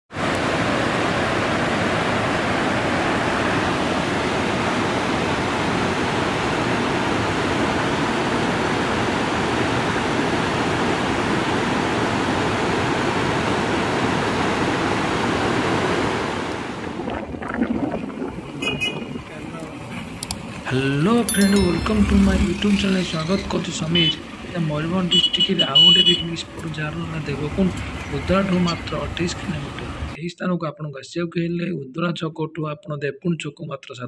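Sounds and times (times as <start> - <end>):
street noise: 0.1 - 30.2.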